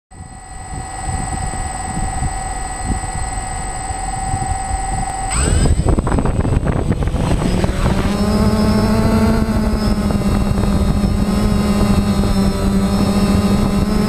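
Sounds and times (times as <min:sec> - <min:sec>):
drone motors whining: 0:00.1 - 0:14.0.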